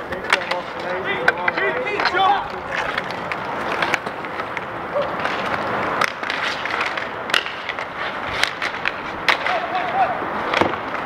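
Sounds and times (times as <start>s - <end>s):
skate wheels rolling: 0.0s - 11.0s
sticks and puck clacking: 0.0s - 11.0s.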